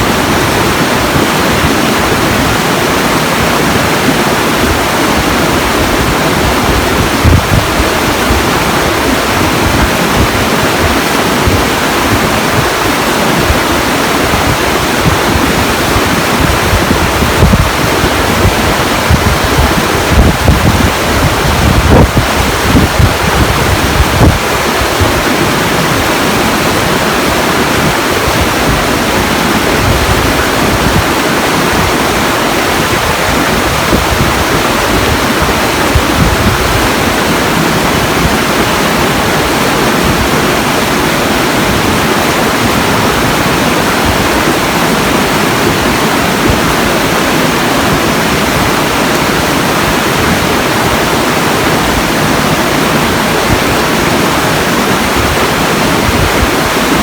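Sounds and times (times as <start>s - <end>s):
loud rush of water: 0.0s - 57.0s
wind buffeting microphone: 0.0s - 57.0s.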